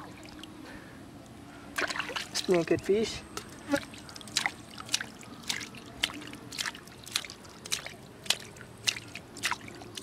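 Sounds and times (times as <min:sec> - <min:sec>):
wet mud squelches and splashes: 0:01.8 - 0:10.0.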